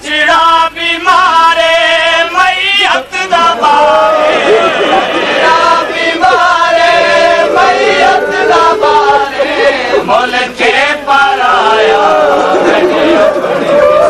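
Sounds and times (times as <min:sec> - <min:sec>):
male voices chanting in chorus: 0:00.3 - 0:14.0.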